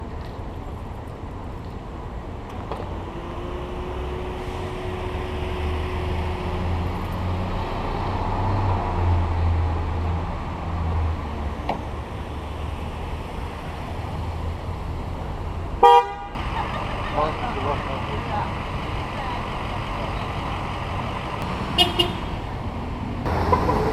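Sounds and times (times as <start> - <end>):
vehicles passing: 0.0 - 23.9.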